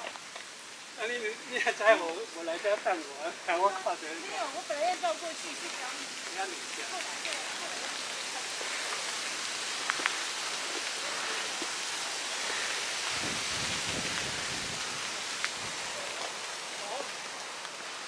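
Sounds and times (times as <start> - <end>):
rain hissing on forest canopy: 0.0 - 18.0.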